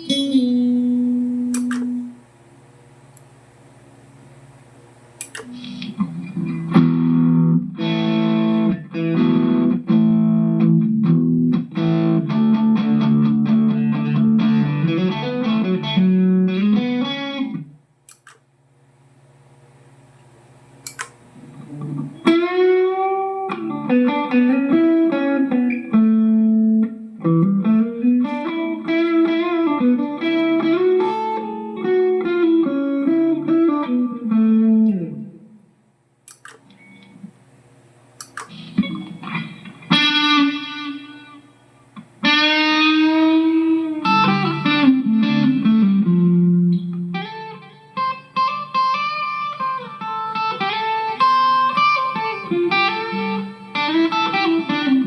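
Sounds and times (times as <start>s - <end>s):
electric guitar: 0.0s - 2.2s, 5.2s - 18.3s, 20.9s - 35.7s, 38.2s - 55.0s.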